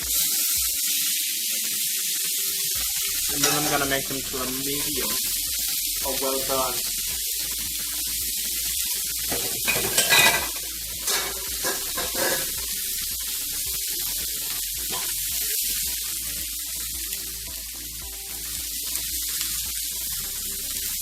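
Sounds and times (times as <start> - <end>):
steaks sizzling in a frying pan: 0.0 - 21.0.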